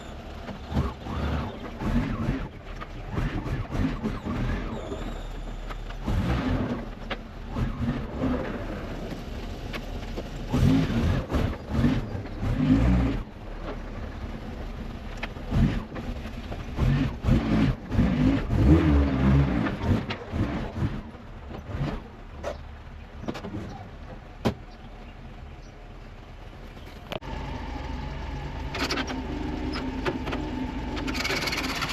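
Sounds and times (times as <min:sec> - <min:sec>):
road noise: 0:00.0 - 0:31.9
vehicle engine accelerating: 0:00.0 - 0:31.9.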